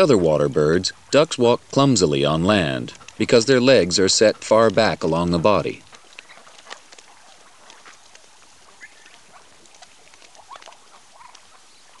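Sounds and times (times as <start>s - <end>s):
ducklings pattering and ticking: 0.0s - 12.0s.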